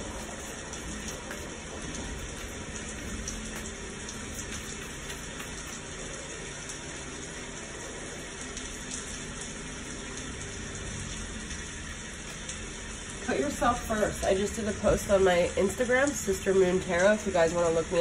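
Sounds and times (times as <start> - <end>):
recorded rain: 0.0 - 18.0.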